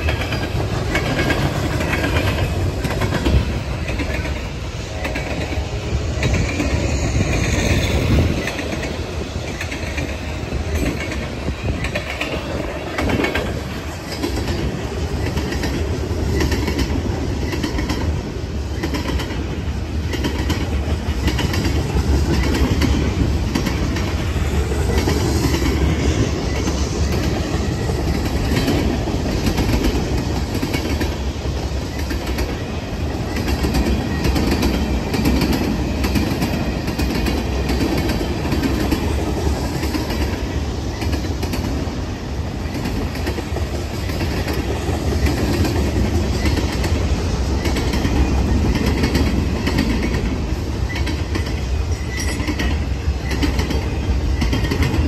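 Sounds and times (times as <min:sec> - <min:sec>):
freight train rumbling past: 0:00.0 - 0:55.0
wheels clicking over rail joints: 0:00.0 - 0:55.0.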